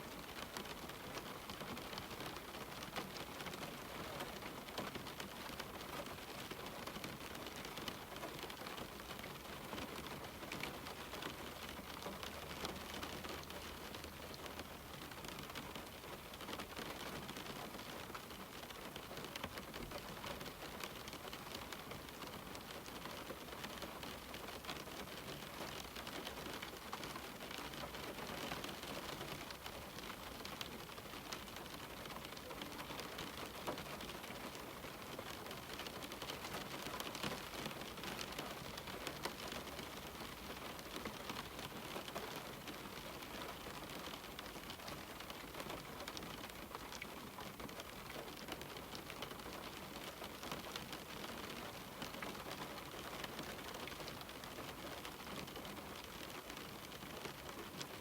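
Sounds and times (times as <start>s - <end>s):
rain ticking on a window: 0.0s - 58.0s.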